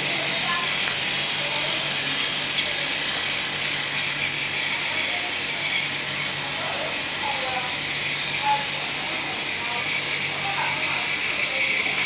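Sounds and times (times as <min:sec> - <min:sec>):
toy trains whirring on track: 0:00.0 - 0:12.0.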